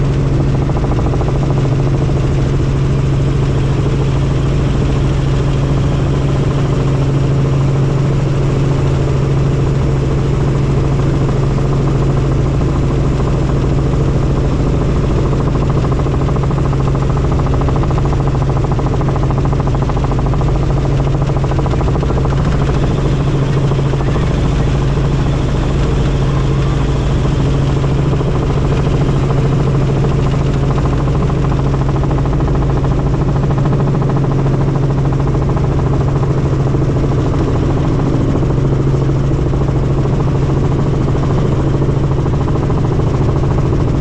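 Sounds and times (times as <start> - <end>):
helicopter rotor and engine drone: 0.0 - 44.0.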